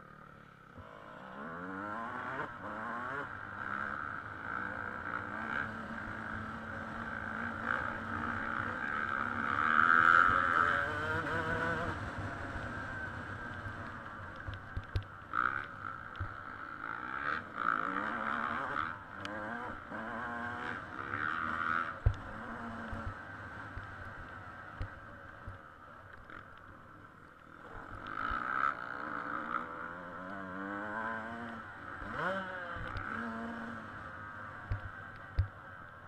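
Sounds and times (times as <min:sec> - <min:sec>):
dirt bike engine revving: 0:00.1 - 0:24.7, 0:27.6 - 0:35.1.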